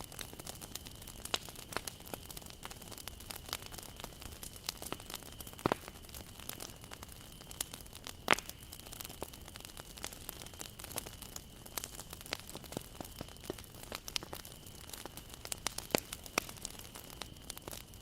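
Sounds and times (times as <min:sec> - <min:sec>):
fire hissing: 0:00.0 - 0:18.0
loud fire pops: 0:00.0 - 0:18.0
wood fire crackling: 0:00.0 - 0:18.0.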